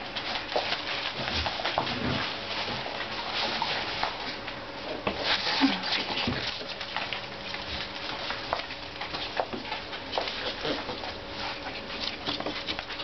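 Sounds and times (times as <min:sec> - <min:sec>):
paws scrabbling on carpet: 0:00.0 - 0:13.0.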